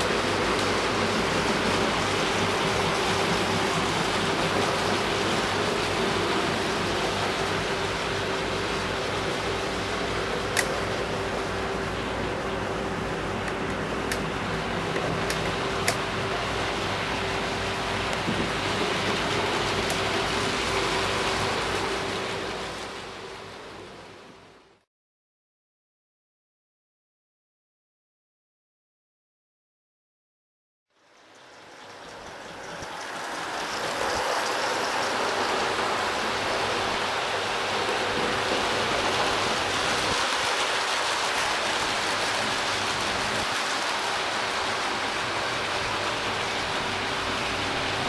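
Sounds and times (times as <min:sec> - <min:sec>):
model train running on track: 0:00.0 - 0:24.6, 0:31.1 - 0:48.0
motor hum: 0:00.0 - 0:24.8, 0:31.3 - 0:48.0.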